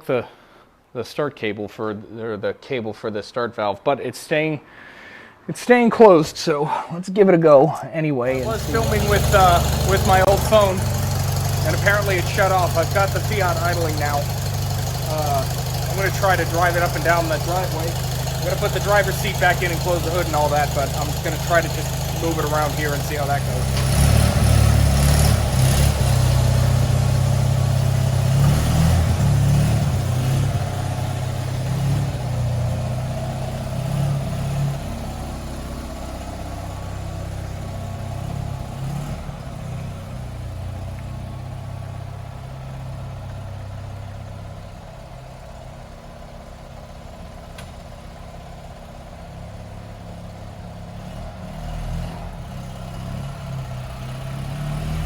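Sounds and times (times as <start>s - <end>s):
small car engine idling: 8.3s - 55.0s.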